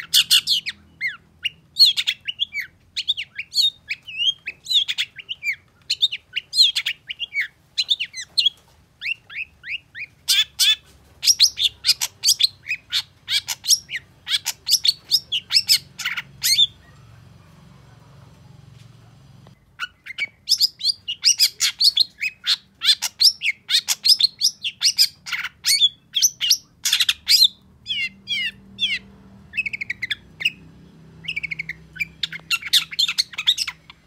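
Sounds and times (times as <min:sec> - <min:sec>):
harsh scratchy bird chatter: 0:00.0 - 0:17.1, 0:19.8 - 0:30.6, 0:31.2 - 0:34.0.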